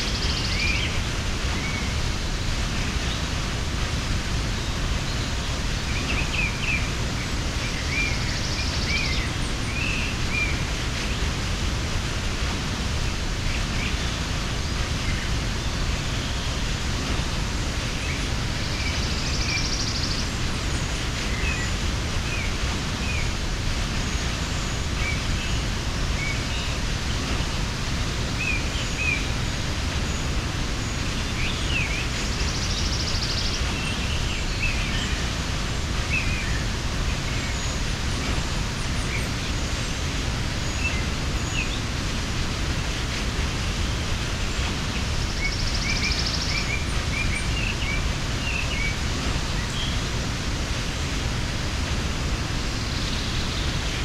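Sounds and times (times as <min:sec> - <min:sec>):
small birds chirping: 0:00.0 - 0:54.0
waterfall rushing: 0:00.0 - 0:54.0.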